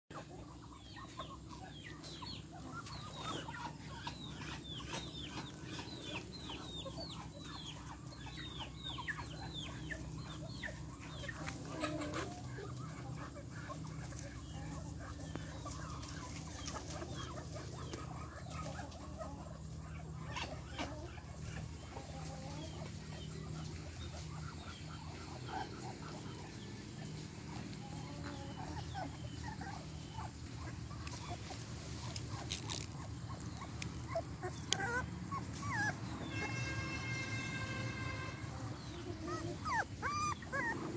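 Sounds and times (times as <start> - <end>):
chickens clucking: 0.1 - 40.9
puppies whimpering and yipping: 0.2 - 40.9.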